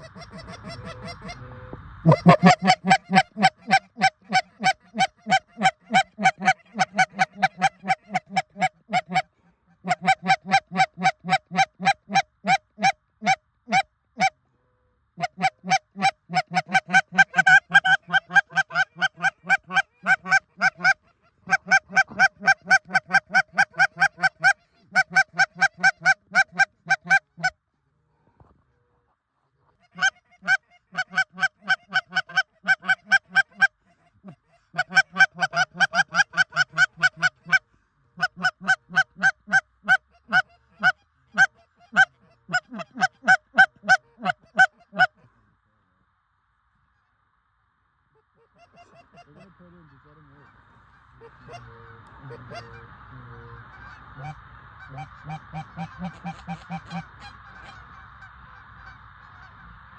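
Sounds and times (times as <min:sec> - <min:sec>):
goose honking: 0:00.0 - 0:14.4, 0:15.2 - 0:27.5, 0:29.7 - 0:45.2, 0:48.4 - 0:59.6.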